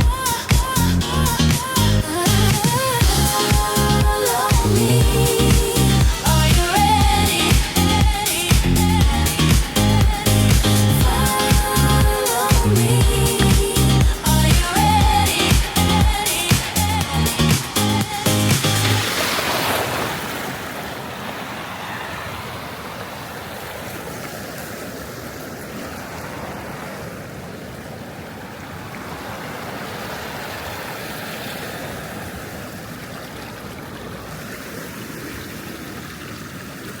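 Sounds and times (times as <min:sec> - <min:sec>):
waves breaking on shore: 0:00.0 - 0:37.0.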